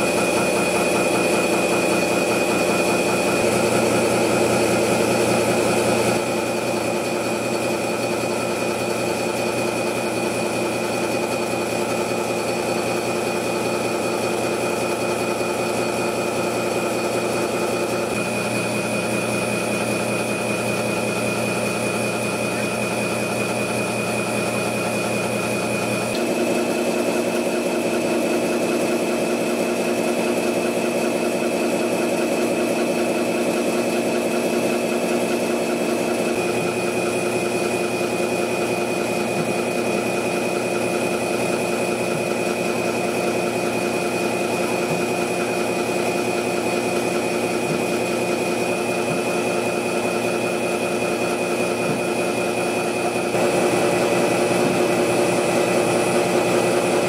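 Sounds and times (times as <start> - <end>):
machine humming and whining: 0.0 - 57.0.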